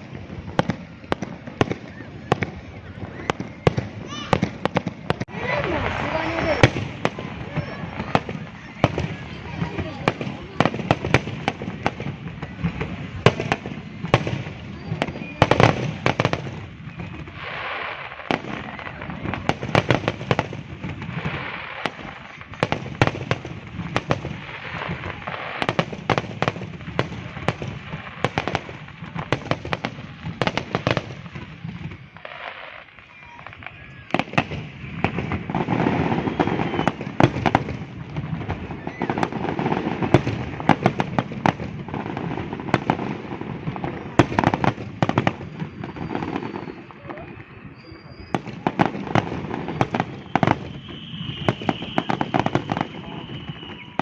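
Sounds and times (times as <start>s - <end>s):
crowd voices: 0.0s - 54.0s
fireworks bangs and crackling: 0.0s - 54.0s.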